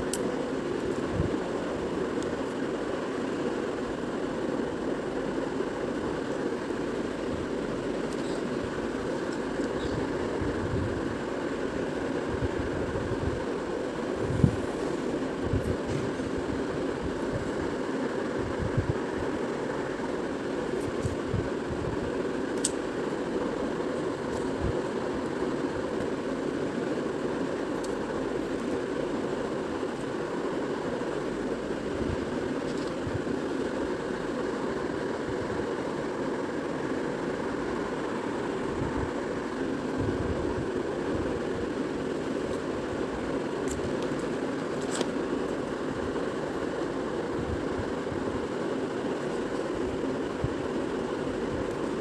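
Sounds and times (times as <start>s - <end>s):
low background hum: 0.0s - 52.0s.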